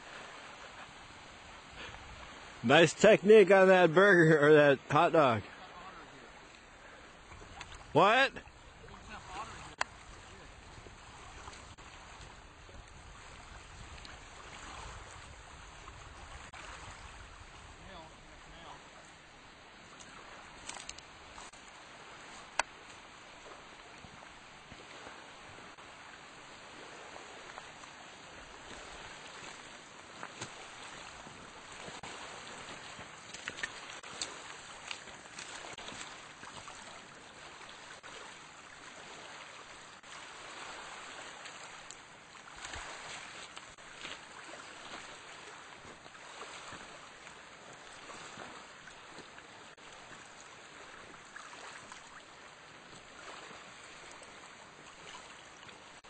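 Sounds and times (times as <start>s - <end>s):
water lapping at shore: 0.0s - 56.0s.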